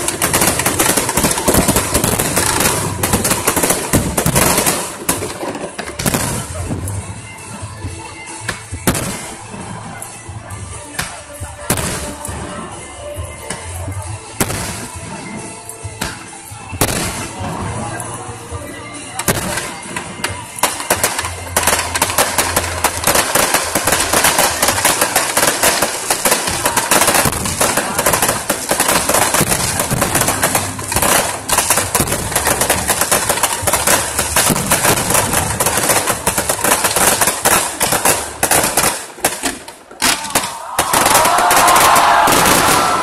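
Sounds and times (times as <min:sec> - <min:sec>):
fireworks bangs and crackling: 0:00.0 - 0:43.0.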